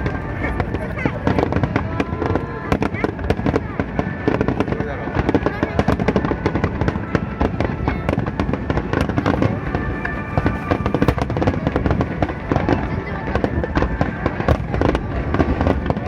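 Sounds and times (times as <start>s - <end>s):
fireworks bangs and crackles: 0.0s - 16.0s
music: 0.0s - 16.0s
voices: 0.0s - 16.0s.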